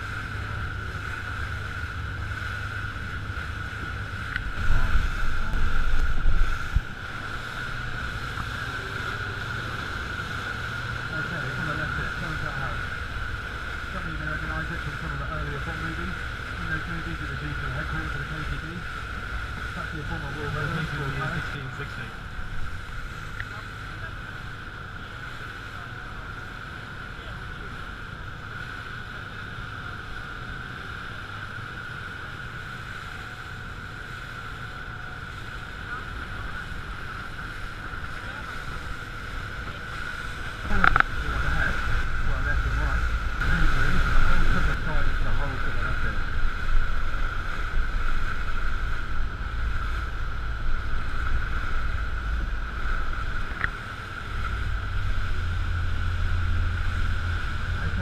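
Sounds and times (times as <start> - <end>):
low rumble: 0.0 - 58.0
speedboat engine droning: 0.0 - 58.0
water splashing along hull: 0.0 - 58.0
wind on microphone: 0.0 - 58.0.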